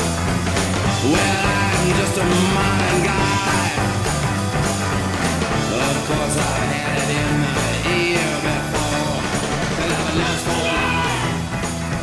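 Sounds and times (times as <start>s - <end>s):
rock song with vocals: 0.0s - 12.0s.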